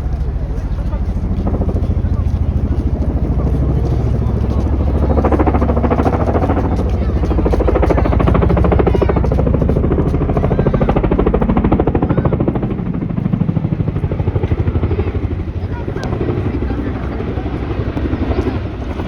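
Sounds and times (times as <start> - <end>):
engine drone: 0.0 - 19.0
helicopter rotor blades chopping: 0.0 - 19.0.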